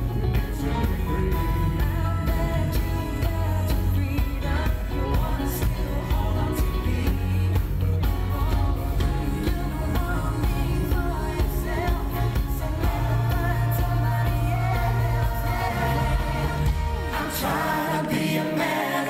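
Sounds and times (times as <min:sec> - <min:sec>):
heavy bass line: 0:00.0 - 0:17.8
band playing: 0:00.0 - 0:19.0
drums: 0:00.0 - 0:19.0
male vocal group singing: 0:00.0 - 0:19.0.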